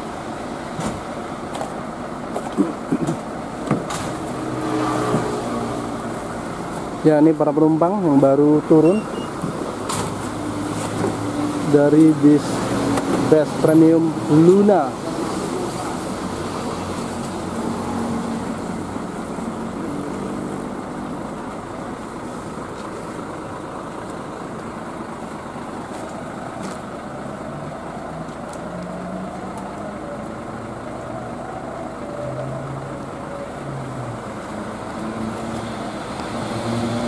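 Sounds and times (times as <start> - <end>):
bus engine idling: 0.0 - 4.6, 5.4 - 36.4.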